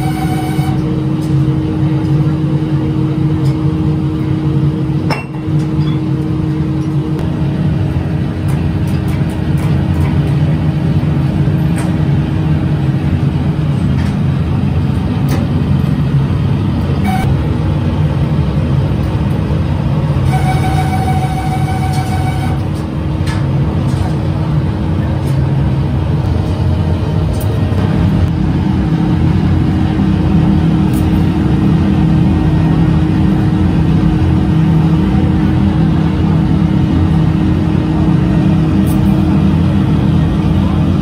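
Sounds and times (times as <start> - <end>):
high whine: 0.0 - 41.0
workshop machinery drone: 0.0 - 41.0.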